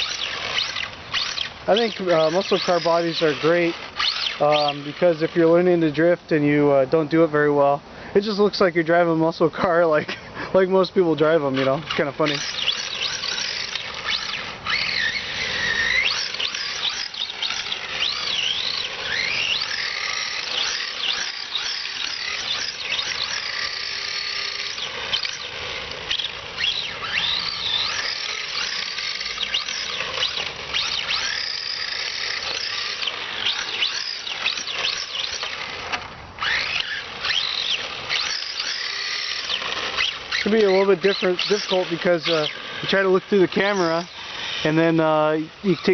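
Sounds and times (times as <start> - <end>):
rc car electric motor whining: 0.0 - 45.9.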